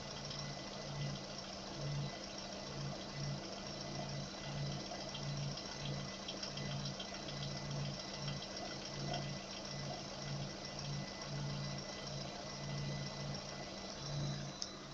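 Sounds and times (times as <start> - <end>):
rapid light engine ticking: 0.0 - 14.9
vehicle engine running: 0.0 - 14.9.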